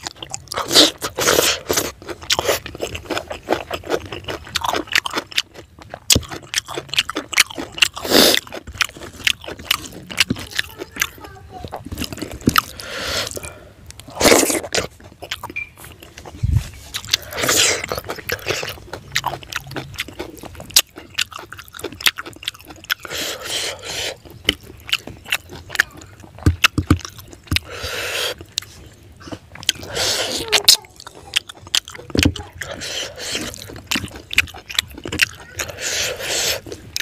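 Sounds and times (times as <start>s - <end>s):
person chewing food: 0.0s - 37.0s
mouth smacking: 6.2s - 37.0s.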